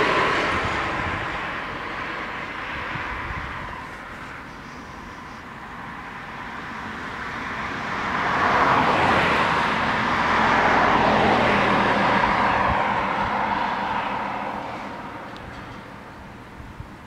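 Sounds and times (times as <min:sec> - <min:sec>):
car driving past: 0:00.0 - 0:15.9.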